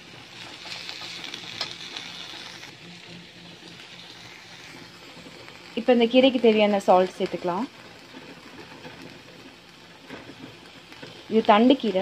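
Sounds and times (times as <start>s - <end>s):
greens sizzling in a pan: 0.0s - 12.0s.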